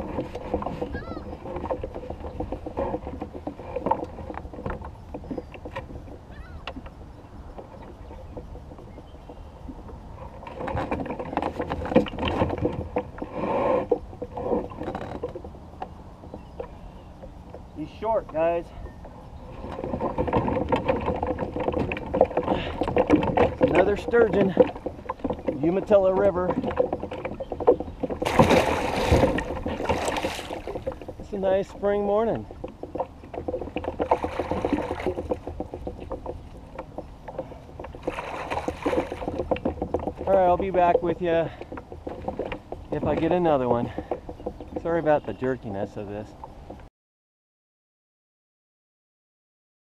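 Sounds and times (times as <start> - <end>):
knocking and clattering on boat: 0.0 - 46.9
water lapping: 0.0 - 46.9.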